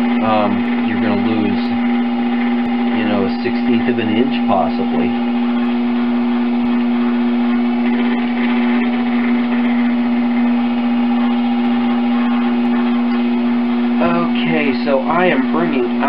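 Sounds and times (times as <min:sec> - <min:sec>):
potter's wheel motor hum: 0:00.0 - 0:16.0.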